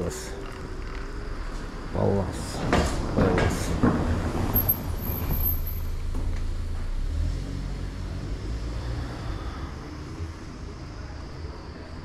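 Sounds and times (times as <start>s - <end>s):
car engine rumble passing: 0.0s - 12.0s.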